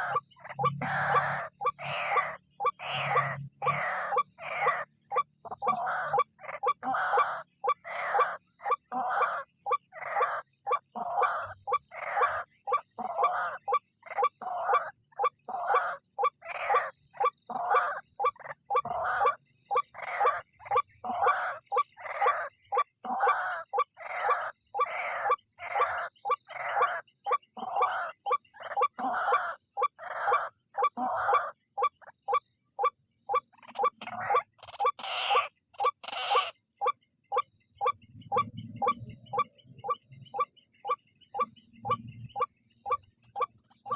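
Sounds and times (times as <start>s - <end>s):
waterhen calling: 0.0s - 43.9s.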